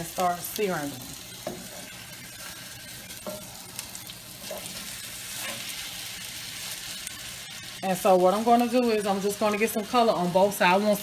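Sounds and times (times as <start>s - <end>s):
steak sizzling in hot oil: 0.0s - 11.0s.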